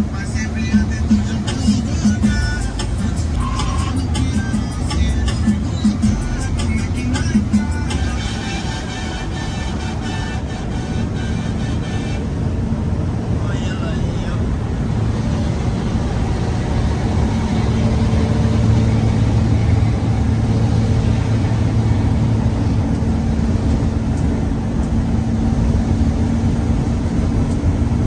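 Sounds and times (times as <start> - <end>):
engine hum: 0.0 - 28.0
tyres and wind rushing: 0.0 - 28.0.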